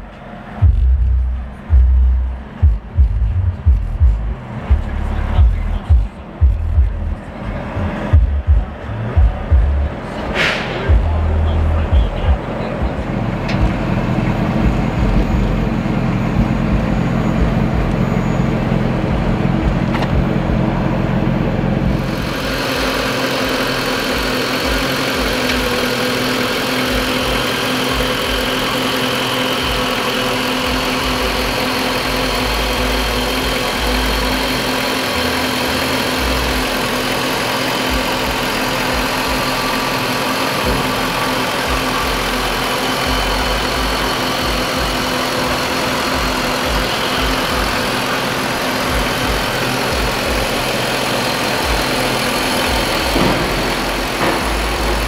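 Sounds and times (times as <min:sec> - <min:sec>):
car engine idling: 0:00.0 - 0:55.0
high-pitched engine whir: 0:00.0 - 0:55.0.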